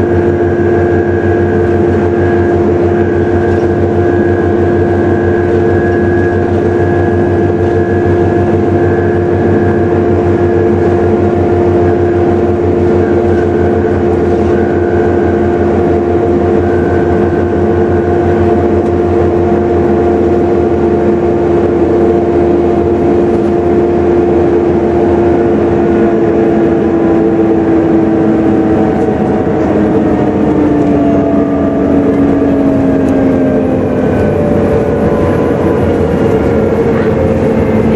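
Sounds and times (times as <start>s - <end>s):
bus engine throbbing: 0.0s - 37.9s
bus whine: 0.0s - 37.9s.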